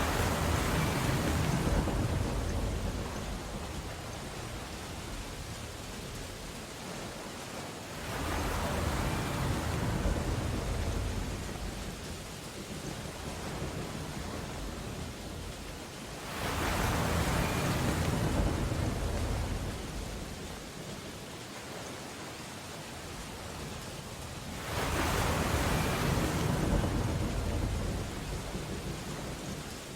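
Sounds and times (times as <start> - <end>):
stormy background: 0.0 - 29.9.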